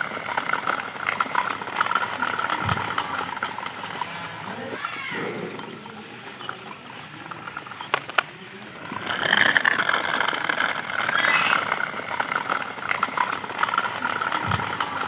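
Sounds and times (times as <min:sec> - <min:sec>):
clicks: 0:00.0 - 0:15.0
small motor and gears whirring: 0:00.0 - 0:15.0.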